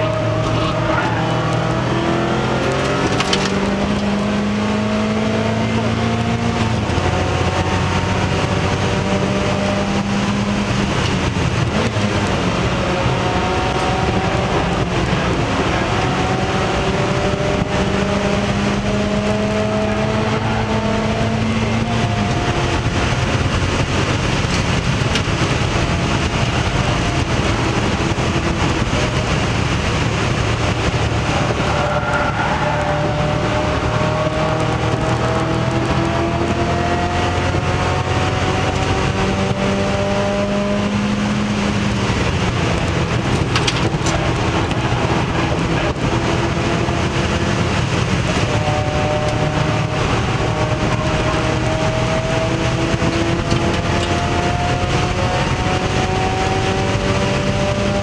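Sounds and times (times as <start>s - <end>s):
race car engine running hard: 0.0s - 58.0s
road and wind noise: 0.0s - 58.0s.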